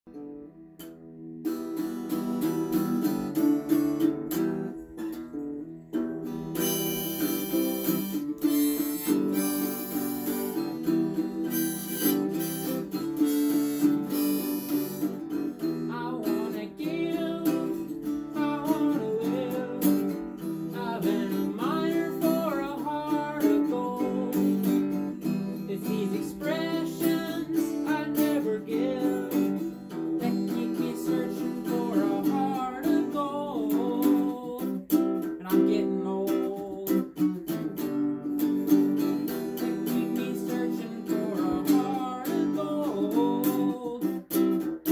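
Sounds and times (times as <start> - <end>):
acoustic guitar strumming: 0.1 - 44.9
harmonica melody: 6.0 - 44.7.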